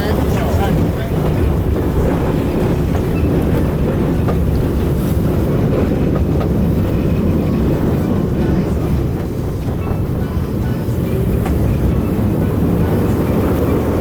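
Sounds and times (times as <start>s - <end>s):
boat engines rumbling: 0.0s - 14.0s.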